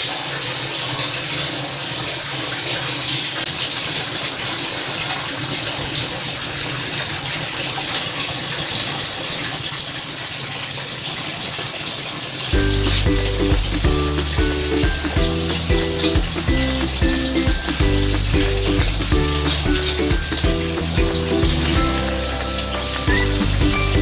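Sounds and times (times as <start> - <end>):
water heating hissing rush: 0.0 - 24.0.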